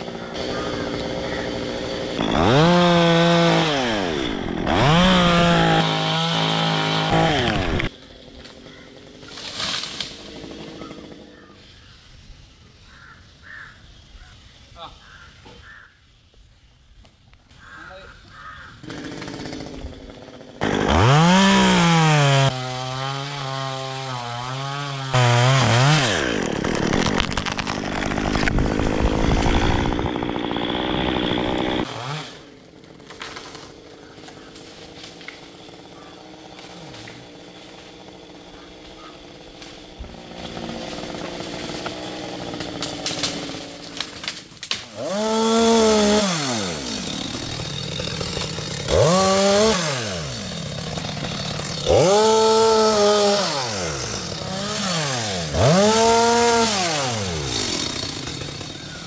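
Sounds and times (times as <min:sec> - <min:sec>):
chainsaw revving and idling: 0:00.0 - 0:11.6, 0:18.5 - 0:59.0.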